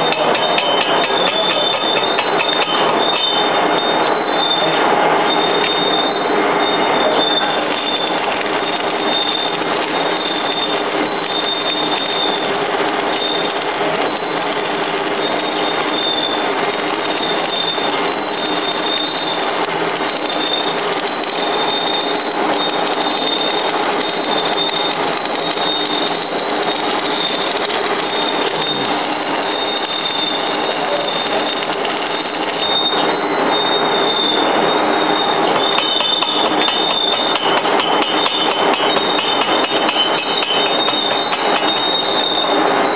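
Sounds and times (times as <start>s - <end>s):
arc welding crackle and hiss: 0.0s - 42.9s.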